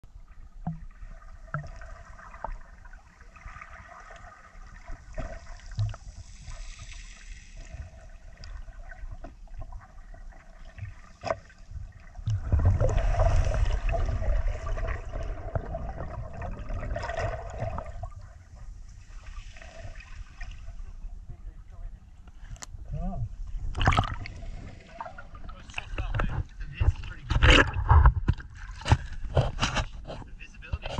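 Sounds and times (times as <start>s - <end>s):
low underwater rush: 0.0s - 29.5s
underwater gurgling: 0.1s - 21.4s, 23.6s - 29.5s.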